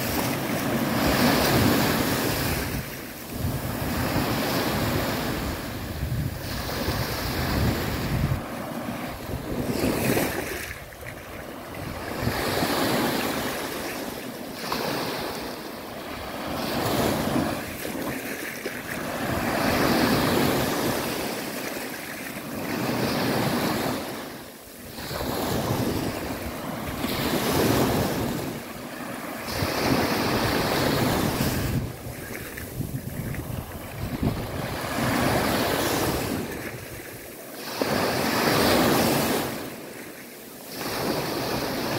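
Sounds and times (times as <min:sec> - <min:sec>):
small waves breaking on shore: 0:00.0 - 0:41.9.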